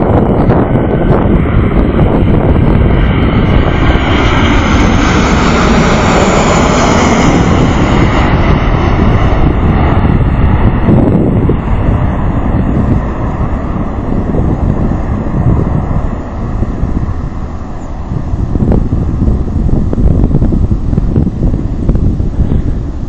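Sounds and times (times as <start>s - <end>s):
jet engines roaring on takeoff: 0.0s - 23.0s.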